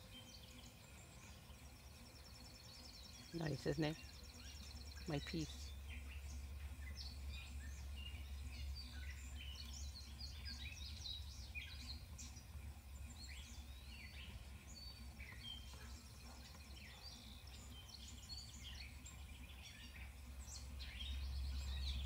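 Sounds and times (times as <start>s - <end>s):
birds chirping and singing: 0.0s - 22.0s
steady low hum: 0.0s - 22.0s.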